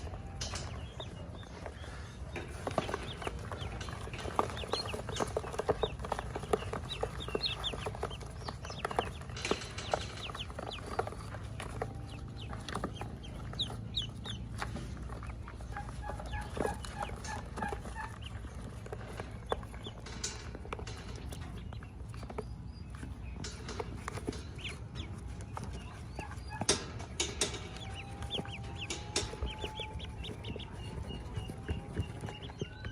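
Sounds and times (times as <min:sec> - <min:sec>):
ducklings peeping: 0:00.0 - 0:32.9
steady low hum: 0:00.0 - 0:32.9.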